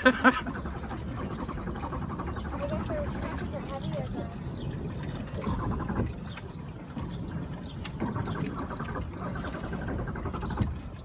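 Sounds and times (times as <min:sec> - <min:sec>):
floodwater sloshing and trickling: 0:00.0 - 0:11.0.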